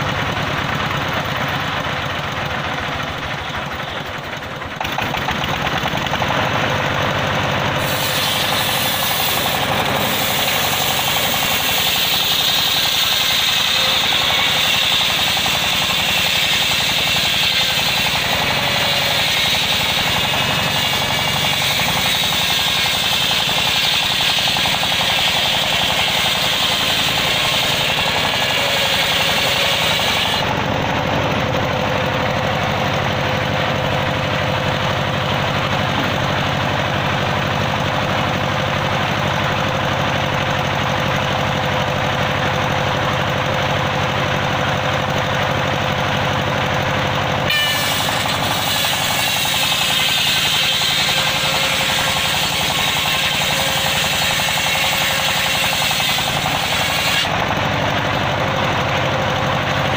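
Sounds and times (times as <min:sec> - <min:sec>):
circular saw running: 0:00.0 - 0:59.9
saw cutting whine: 0:00.0 - 0:59.9.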